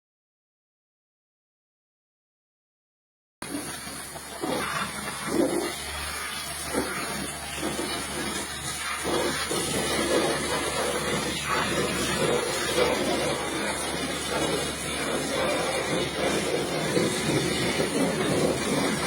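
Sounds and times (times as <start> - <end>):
pressure washer spraying water: 3.4 - 19.0.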